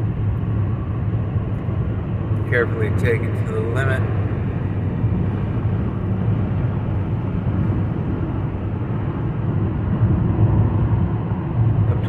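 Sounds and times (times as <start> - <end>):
tyres droning on road: 0.0 - 12.0.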